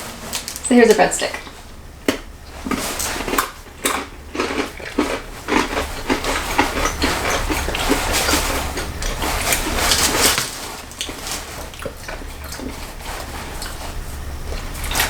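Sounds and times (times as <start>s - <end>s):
breadstick crunching: 1.4s - 15.0s.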